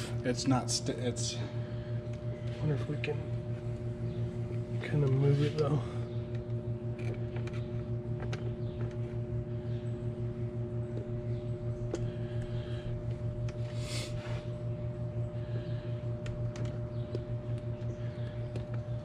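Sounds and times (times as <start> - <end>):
pulsing machine hum: 0.0 - 19.0.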